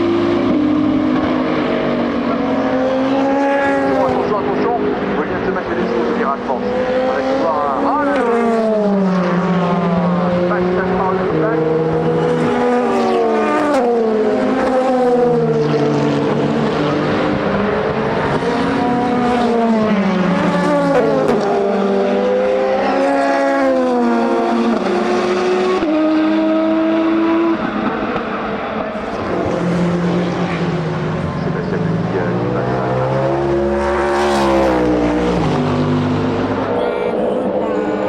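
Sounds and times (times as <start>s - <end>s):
race car engines passing: 0.0s - 38.0s.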